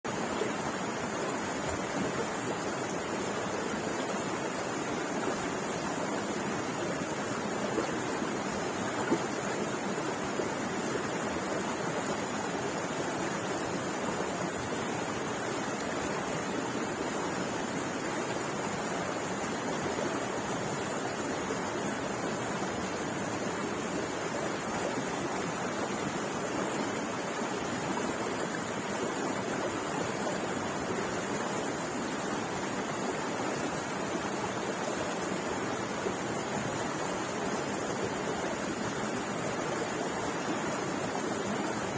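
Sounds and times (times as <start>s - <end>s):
creek water rushing: 0.0s - 41.9s.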